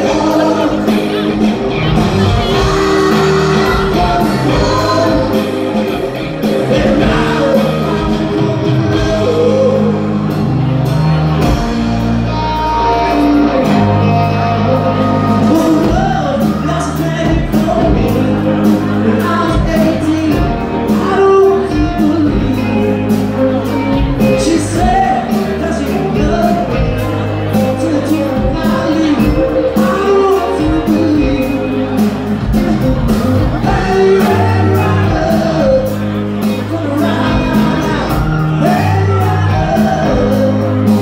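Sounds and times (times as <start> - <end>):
live rock band with vocals: 0.0 - 41.0.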